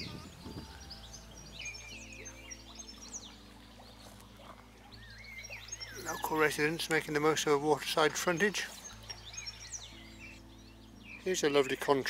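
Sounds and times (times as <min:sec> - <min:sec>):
small birds chirping: 0:00.0 - 0:12.0
soft background music: 0:00.0 - 0:12.0.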